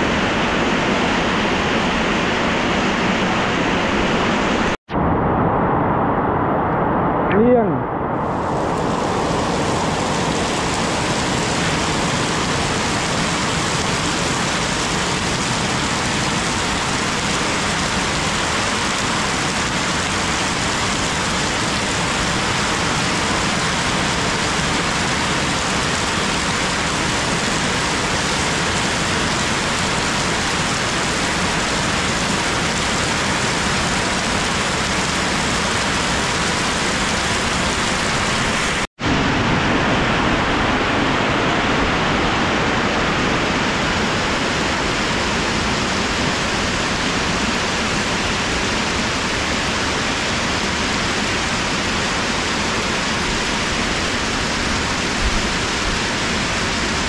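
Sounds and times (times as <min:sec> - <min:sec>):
heavy rain on trees and puddles: 0:00.0 - 0:04.8, 0:05.7 - 0:57.0.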